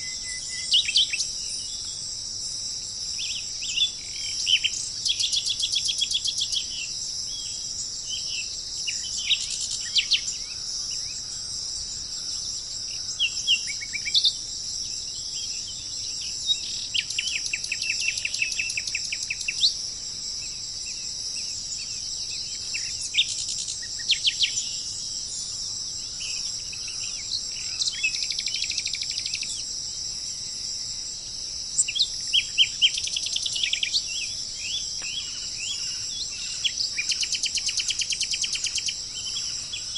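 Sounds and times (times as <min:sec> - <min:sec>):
high-pitched insect chorus: 0:00.0 - 0:39.9
wild birds chirping and trilling: 0:00.0 - 0:39.9.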